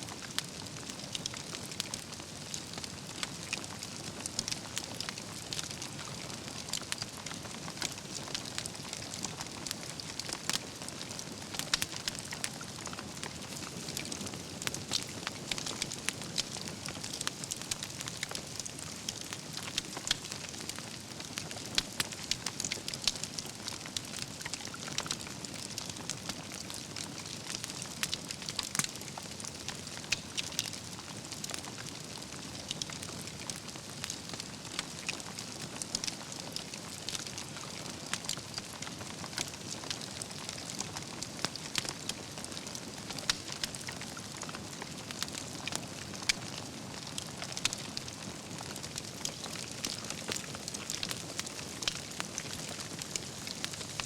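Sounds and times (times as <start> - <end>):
campfire crackling: 0.1 - 54.0
logs and embers popping: 0.2 - 54.0.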